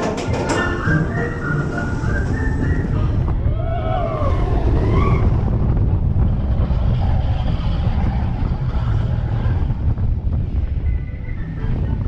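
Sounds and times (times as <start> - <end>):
roller coaster wheels rumbling: 0.0 - 12.0
wind on microphone: 0.0 - 12.0.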